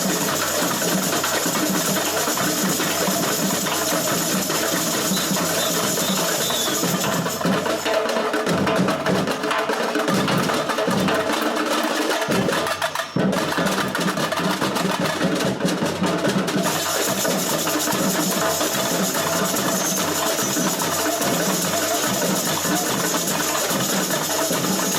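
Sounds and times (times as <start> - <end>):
samba drums and percussion: 0.0 - 24.9.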